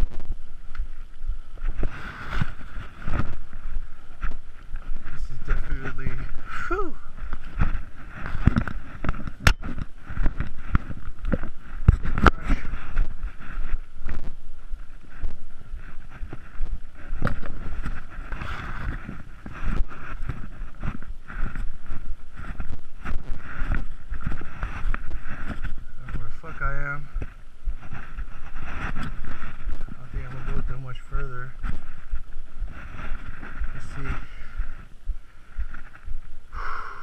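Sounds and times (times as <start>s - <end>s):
brush rustling against camera: 0.0s - 36.5s.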